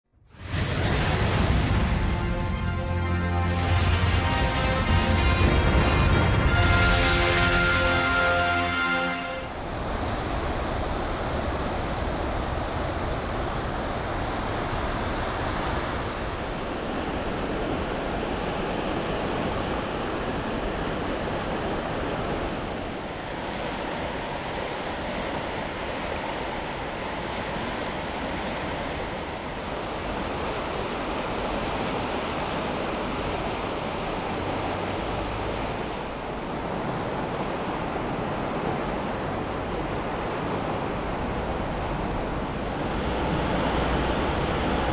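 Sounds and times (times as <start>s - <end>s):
floodwater rushing: 0.4s - 11.4s, 13.2s - 44.9s.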